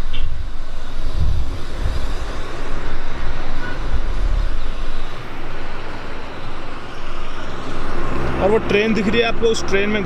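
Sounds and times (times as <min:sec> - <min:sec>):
loud outdoor rumble: 0:00.0 - 0:10.0.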